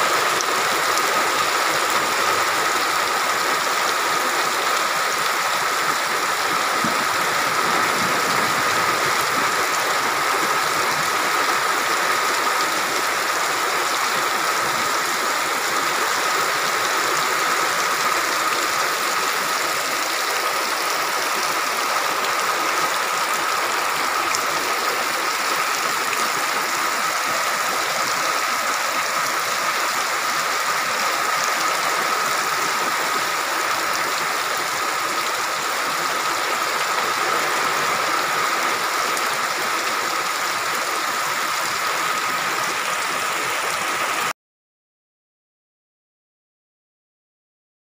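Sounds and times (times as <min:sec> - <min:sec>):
heavy rain pouring: 0:00.0 - 0:44.3.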